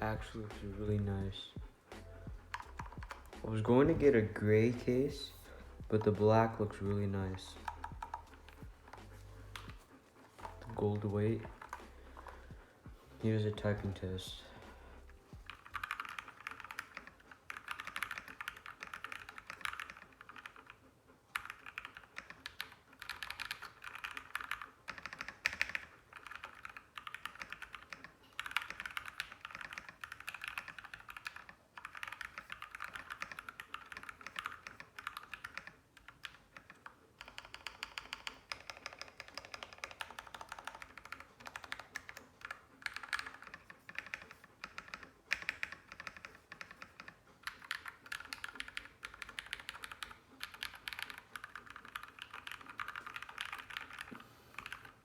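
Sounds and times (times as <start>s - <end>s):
mechanical keyboard typing: 0.0s - 12.7s, 13.3s - 55.0s.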